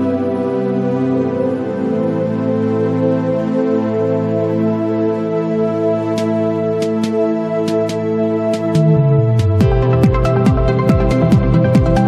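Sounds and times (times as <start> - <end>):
ambient cinematic music: 0.0 - 12.0.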